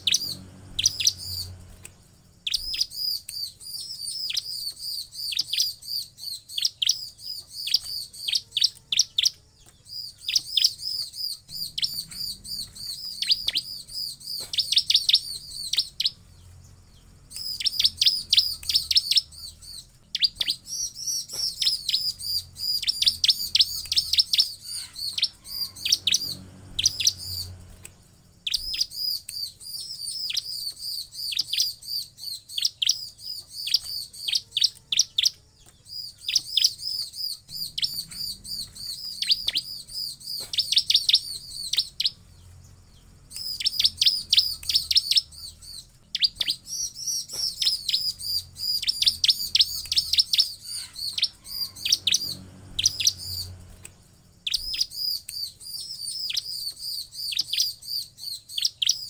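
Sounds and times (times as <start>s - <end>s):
bird rapid high chirping: 0.0s - 59.0s.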